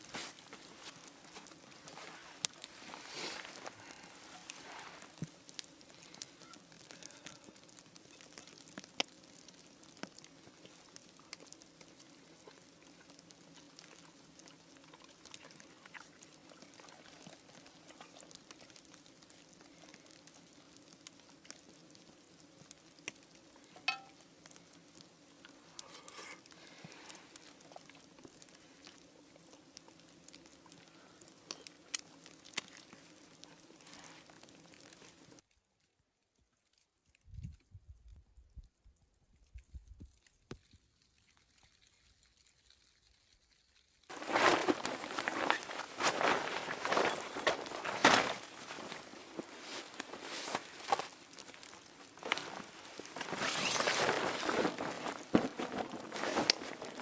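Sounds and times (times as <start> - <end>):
faint crackling and clicking: 0.0 - 35.6, 36.6 - 57.0.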